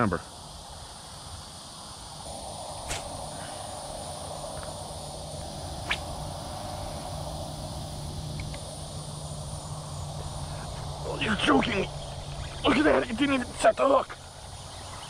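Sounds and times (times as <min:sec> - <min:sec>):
frog chorus: 0:00.0 - 0:15.0
high insect trill: 0:00.0 - 0:15.0.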